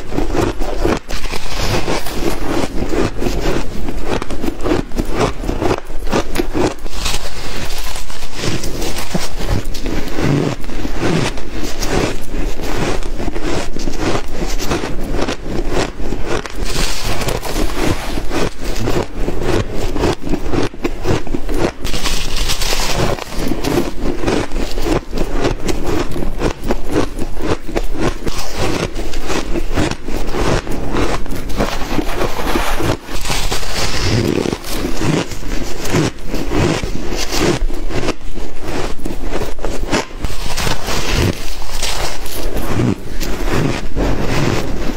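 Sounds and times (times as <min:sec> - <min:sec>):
shaved ice crunching: 0:00.1 - 0:44.9.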